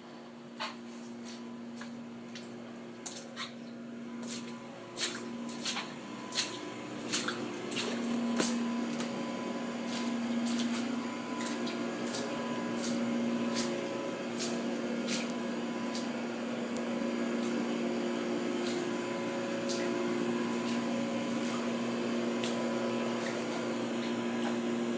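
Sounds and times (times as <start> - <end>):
motor machine humming: 1.0 - 24.9.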